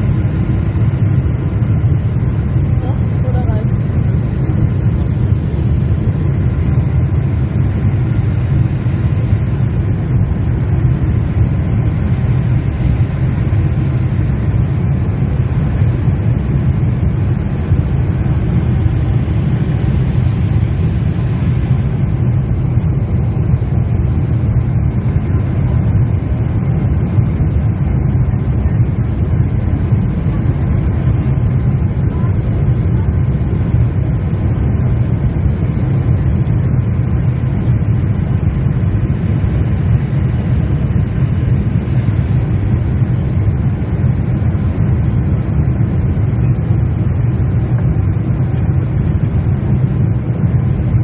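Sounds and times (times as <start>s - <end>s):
airplane engines and airflow in cabin: 0.0s - 51.0s.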